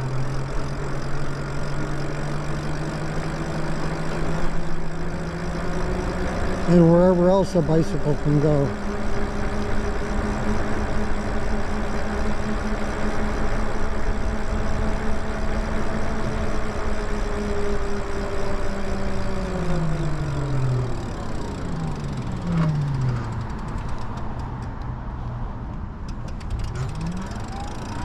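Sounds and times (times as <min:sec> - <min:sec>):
electric bike motor whining: 0:00.0 - 0:24.8, 0:26.1 - 0:28.0
wind and road noise: 0:00.0 - 0:28.0.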